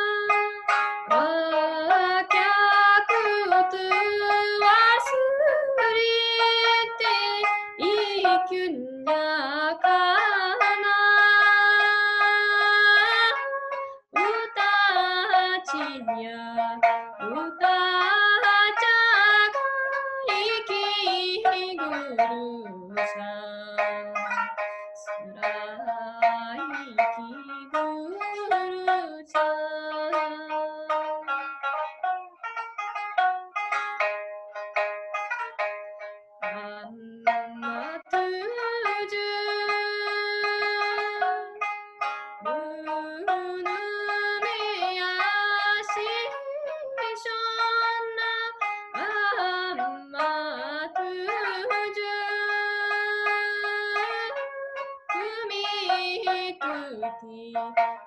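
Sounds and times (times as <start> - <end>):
woman singing: 0.0 - 31.2, 36.4 - 41.7, 42.4 - 58.0
plucked lute notes: 0.0 - 58.0.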